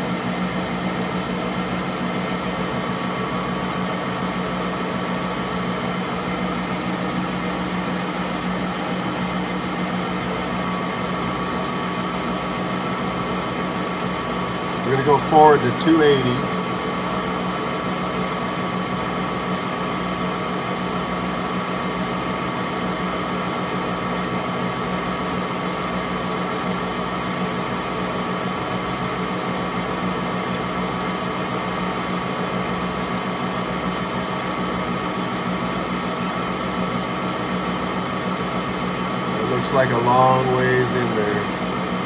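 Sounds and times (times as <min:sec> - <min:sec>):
metal lathe humming: 0:00.0 - 0:42.0.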